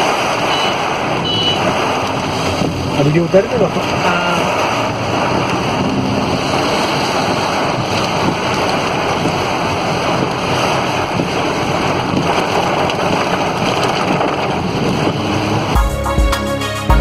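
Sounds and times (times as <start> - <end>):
floodwater rushing down street: 0.0 - 15.8.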